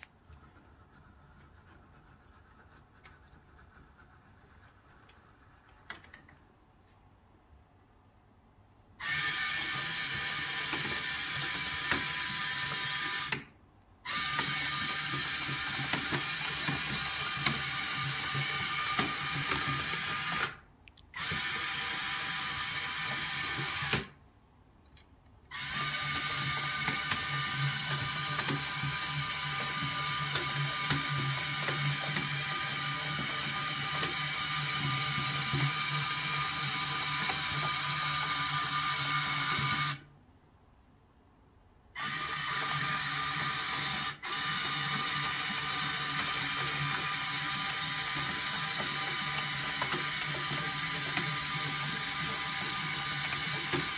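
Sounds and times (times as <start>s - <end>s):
electric gear motors whining: 0.0s - 6.5s, 9.0s - 20.6s, 21.2s - 24.1s, 25.5s - 40.1s, 42.0s - 53.9s.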